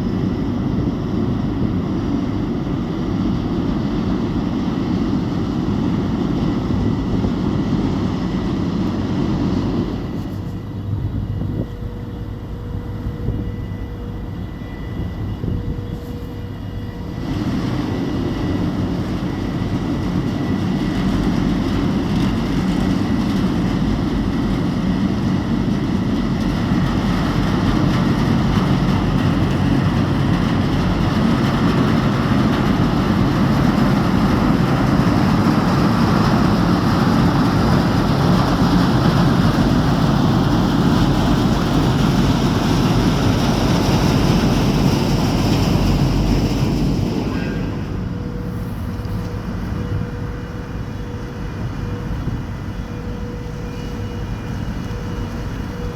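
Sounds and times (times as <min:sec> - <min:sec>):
ferry engine drone: 0:00.0 - 0:55.9.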